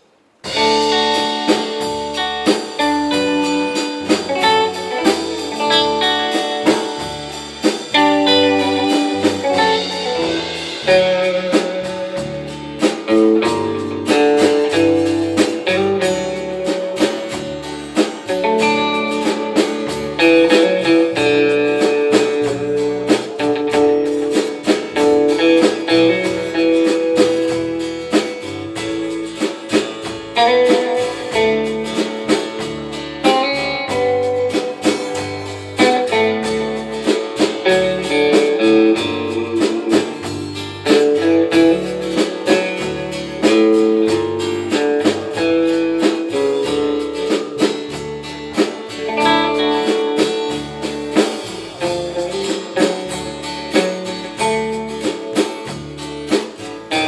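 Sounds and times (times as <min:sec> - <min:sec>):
bass guitar: 0:00.0 - 0:57.0
drum kit: 0:00.0 - 0:57.0
electric lead guitar melody: 0:00.0 - 0:57.0
strummed rhythm guitar: 0:00.0 - 0:57.0.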